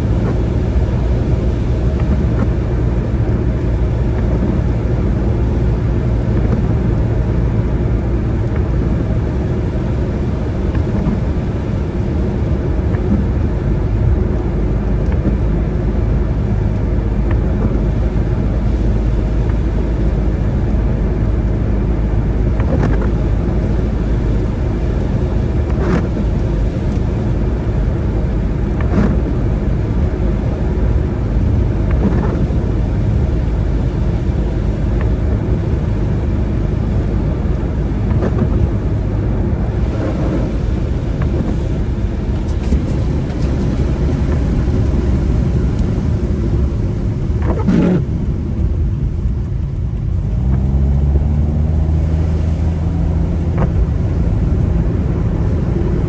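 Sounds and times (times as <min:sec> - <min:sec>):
car driving on wet road: 0:00.0 - 0:56.0.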